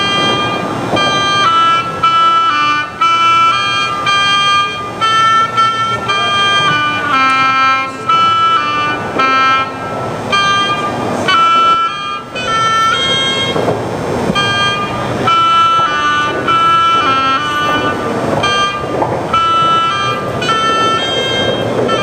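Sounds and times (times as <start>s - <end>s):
horn-like tune: 0.0s - 22.0s
steady background noise: 0.0s - 22.0s.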